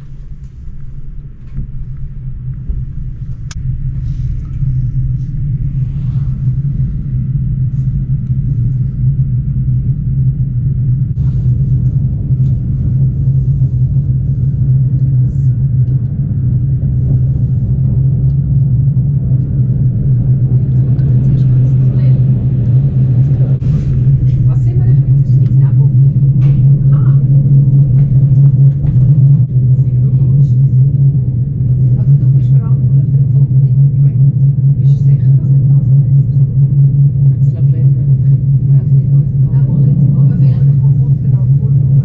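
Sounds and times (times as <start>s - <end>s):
train rumble from inside carriage: 0.0s - 42.0s.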